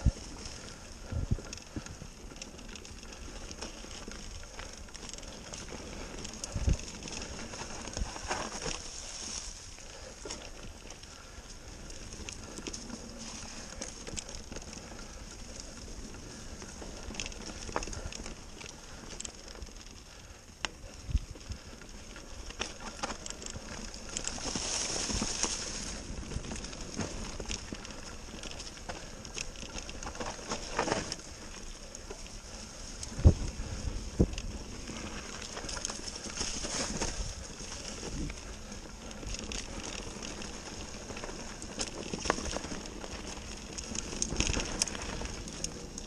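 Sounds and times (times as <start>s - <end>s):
bike knocking and rattling: 0.0s - 46.0s
bike tyres rolling over leaves: 0.0s - 46.0s.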